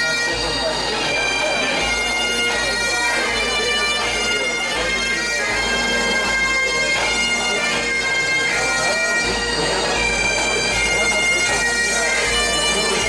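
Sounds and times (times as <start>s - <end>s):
bagpipes playing: 0.0s - 13.0s
crowd chatter: 0.0s - 13.0s.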